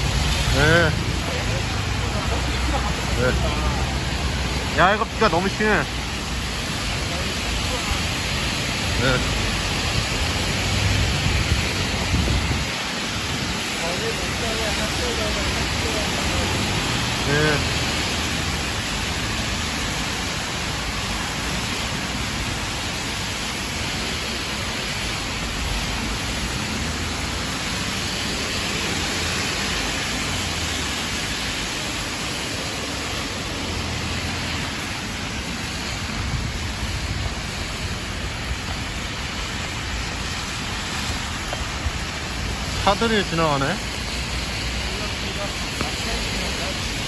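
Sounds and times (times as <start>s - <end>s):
car tyres swishing on wet road: 0.0s - 47.0s
heavy rain: 0.0s - 47.0s.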